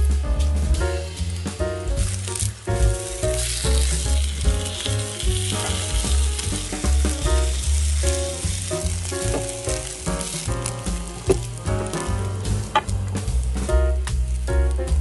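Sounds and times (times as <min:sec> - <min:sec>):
background music with deep bass: 0:00.0 - 0:15.0
patties sizzling in a pan: 0:00.0 - 0:15.0.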